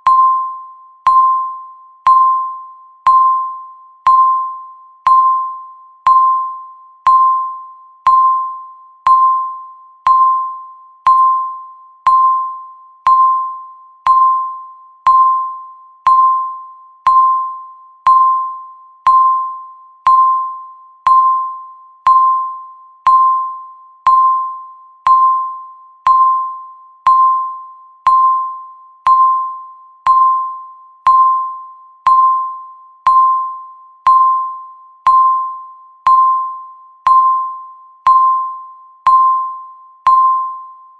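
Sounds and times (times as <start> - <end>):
timer chime-like beeps: 0.0 - 40.9.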